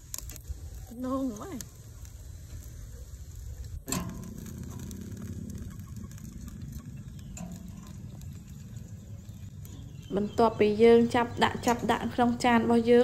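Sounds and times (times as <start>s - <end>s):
meat sizzling on a grill: 0.0s - 13.0s
steady low noise: 0.0s - 13.0s.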